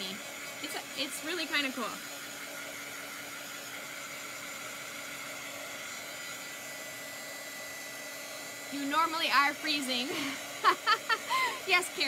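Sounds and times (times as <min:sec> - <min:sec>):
blow dryer whooshing: 0:00.0 - 0:12.0.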